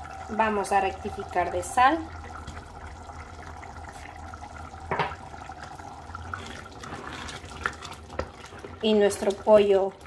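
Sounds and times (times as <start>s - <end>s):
stew simmering in a pot: 0.0s - 10.0s.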